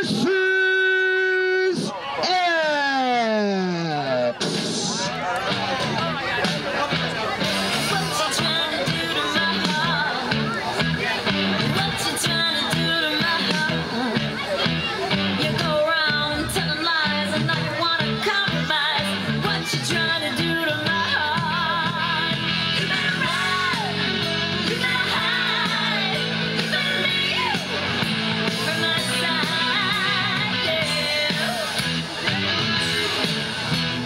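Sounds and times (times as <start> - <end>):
rock song with singer and guitar: 3.3 - 34.0.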